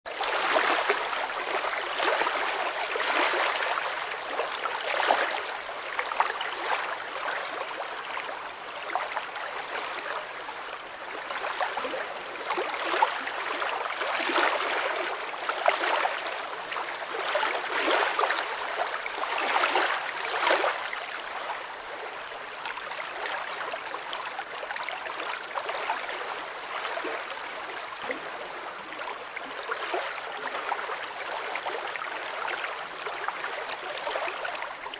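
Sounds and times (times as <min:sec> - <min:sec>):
water babbling: 0:00.1 - 0:34.9.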